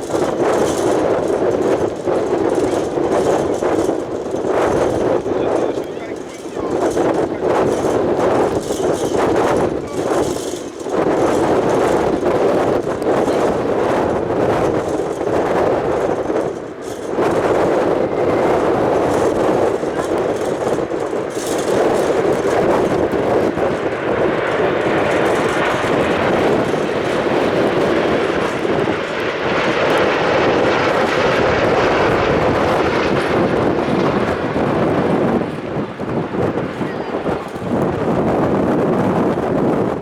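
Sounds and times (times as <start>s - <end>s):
jet engine roar: 0.0s - 40.0s.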